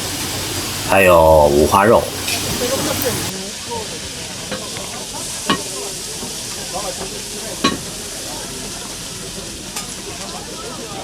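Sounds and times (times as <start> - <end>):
meat sizzling on grill: 0.0 - 11.0
faint chatter: 0.8 - 11.0.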